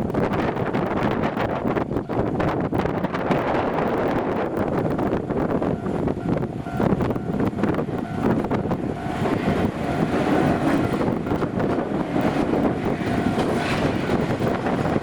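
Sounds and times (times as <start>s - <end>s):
train running over crossing: 0.0s - 15.0s
wind buffeting microphone: 0.0s - 15.0s.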